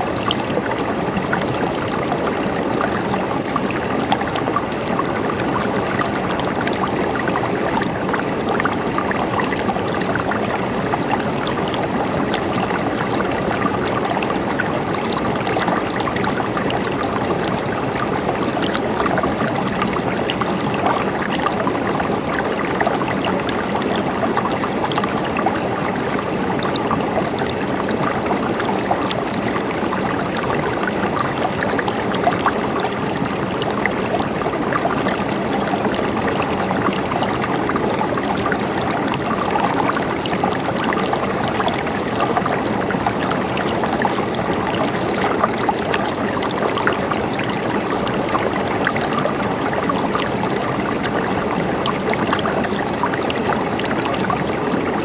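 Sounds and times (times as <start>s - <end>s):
stream of water flowing: 0.0s - 55.0s.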